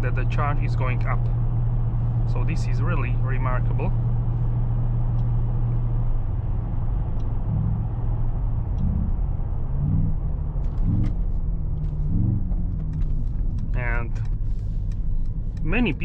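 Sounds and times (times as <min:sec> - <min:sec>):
car engine droning in cabin: 0:00.0 - 0:16.0
road noise: 0:00.0 - 0:16.0.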